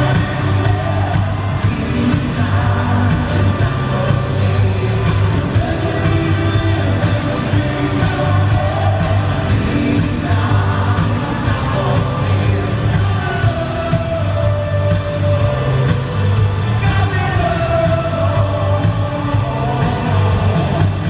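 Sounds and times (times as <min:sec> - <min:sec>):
live rock band playing: 0:00.0 - 0:21.0
man singing lead vocal: 0:00.0 - 0:21.0.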